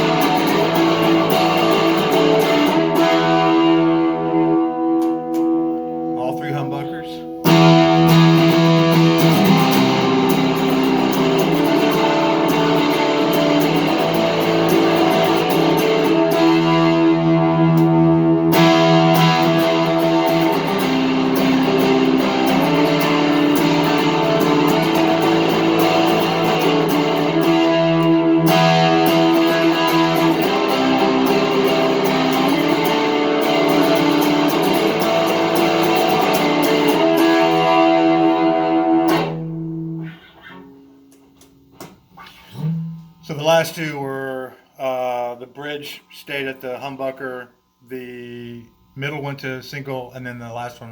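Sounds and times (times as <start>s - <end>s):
overdriven electric guitar chords: 0.0s - 43.8s.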